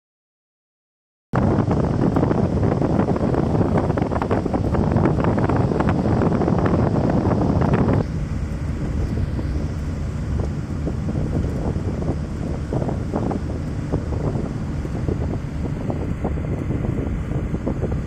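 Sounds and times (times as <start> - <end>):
vehicle rumble: 1.4 - 18.0
wind buffeting microphone: 1.4 - 18.0.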